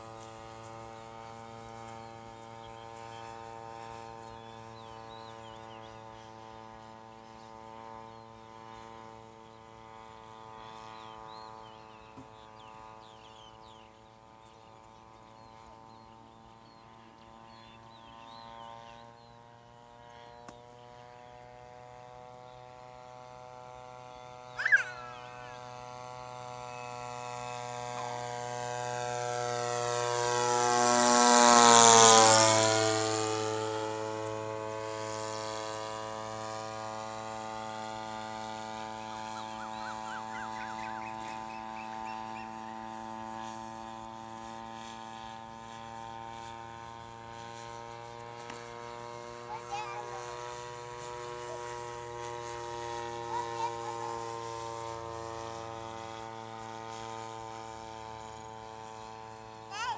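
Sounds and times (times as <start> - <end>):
model aeroplane engine droning: 0.0 - 59.9.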